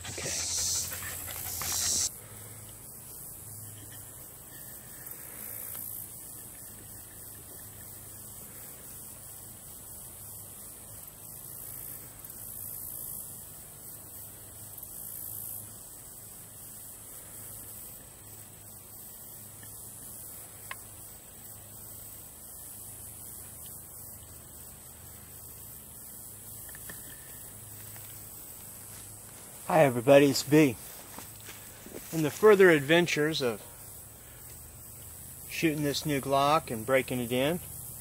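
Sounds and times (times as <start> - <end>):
faint hiss: 0.0 - 38.0
low electrical hum: 0.0 - 38.0.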